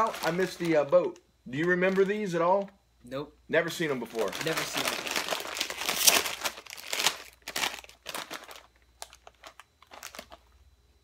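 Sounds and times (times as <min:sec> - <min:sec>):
chip bag crinkling: 0:00.0 - 0:02.7, 0:03.8 - 0:10.6.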